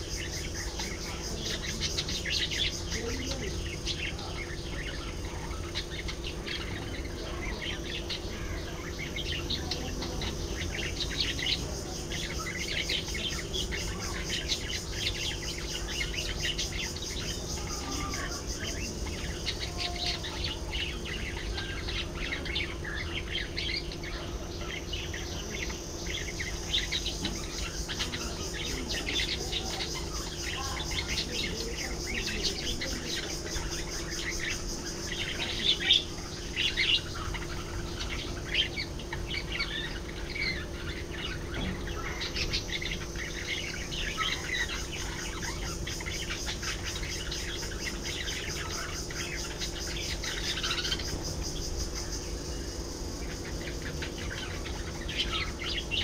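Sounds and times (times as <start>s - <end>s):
budgerigars chattering and chirping: 0.0s - 56.0s
steady low hum: 0.0s - 56.0s.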